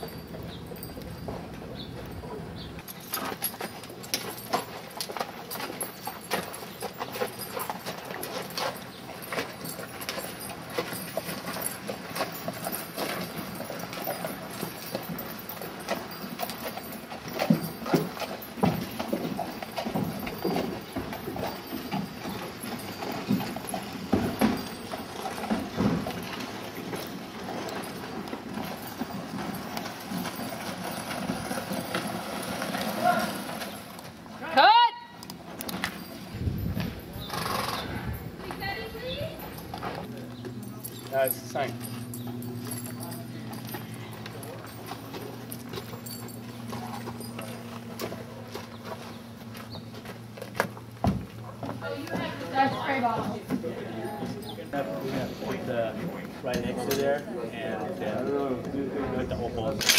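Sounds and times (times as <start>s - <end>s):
horse hooves clip-clopping on dirt: 0.0s - 59.9s.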